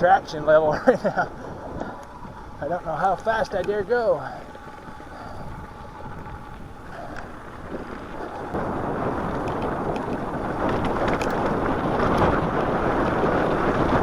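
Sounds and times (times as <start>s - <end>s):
bike tyres rolling on snow: 0.0s - 14.0s
wind rushing over microphone: 0.0s - 14.0s.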